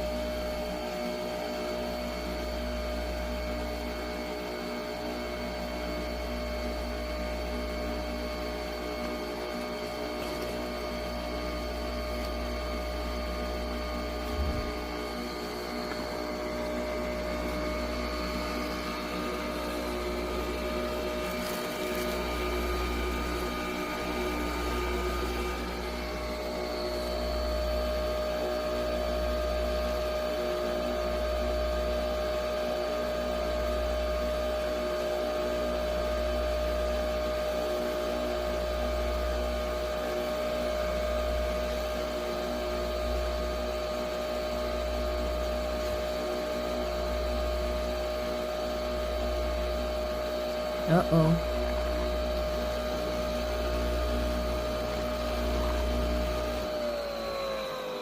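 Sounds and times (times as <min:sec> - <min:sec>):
coffee machine whirring hum: 0:00.0 - 0:58.0.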